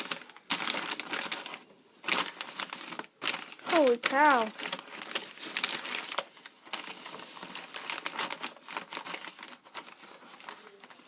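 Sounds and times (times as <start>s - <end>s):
wrapping paper crinkling: 0.0s - 11.0s.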